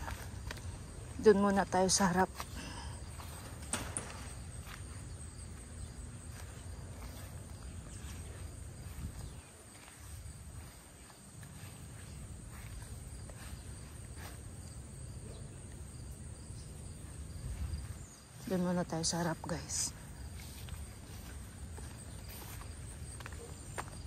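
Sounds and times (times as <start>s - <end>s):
high insect trill: 0.0s - 24.0s.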